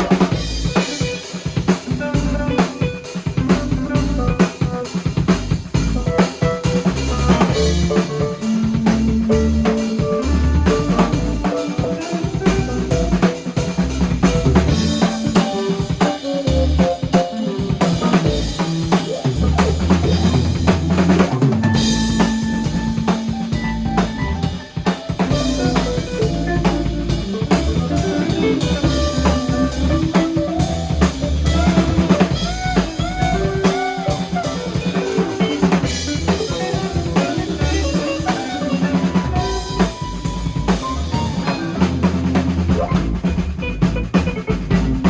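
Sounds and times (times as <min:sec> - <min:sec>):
band jamming: 0:00.0 - 0:45.0
drum kit playing a groove: 0:00.0 - 0:45.0.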